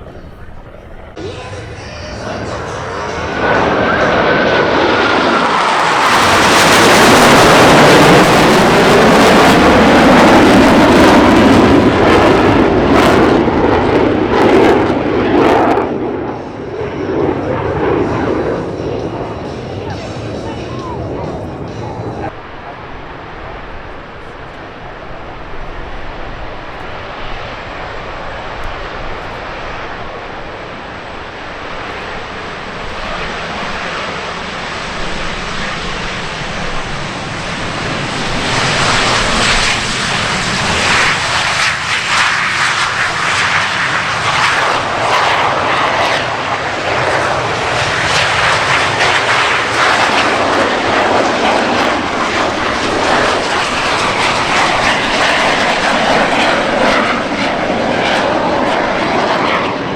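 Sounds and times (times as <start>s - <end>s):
aircraft engine passing overhead: 0.0s - 59.9s.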